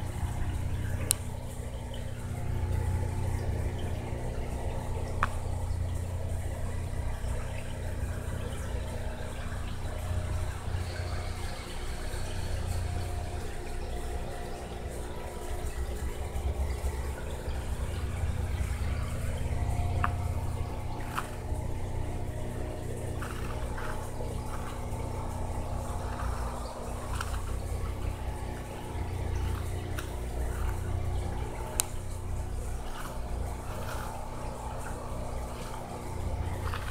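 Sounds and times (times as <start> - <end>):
aquarium water trickling: 0.0 - 36.9
low equipment hum: 0.0 - 36.9.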